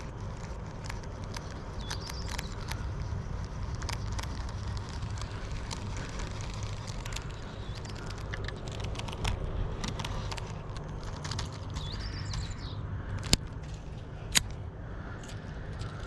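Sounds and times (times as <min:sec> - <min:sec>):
handling noises: 0:00.0 - 0:16.0
sharp clicks: 0:00.0 - 0:16.0.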